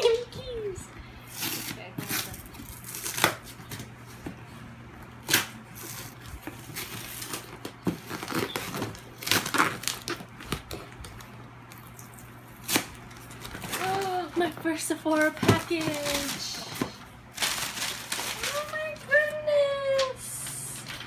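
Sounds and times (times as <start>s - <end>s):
packing tape tearing: 1.3s - 3.9s, 5.2s - 14.3s, 15.1s - 21.0s.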